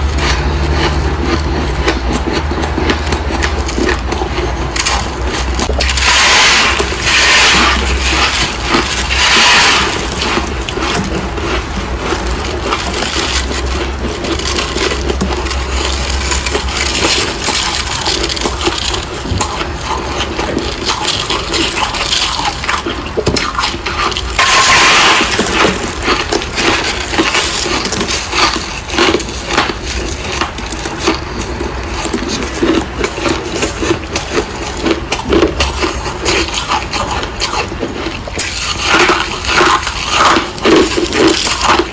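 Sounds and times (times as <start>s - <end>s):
freezer frost crunching: 0.0s - 41.9s.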